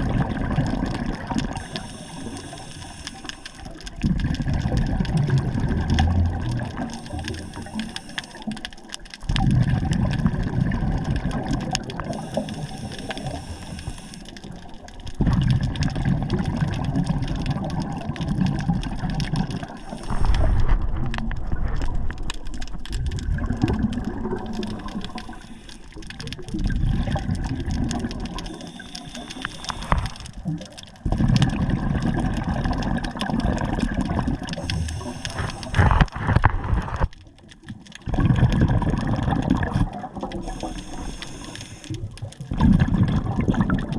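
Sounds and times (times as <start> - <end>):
underwater bubbling and gurgling: 0.0 - 43.9.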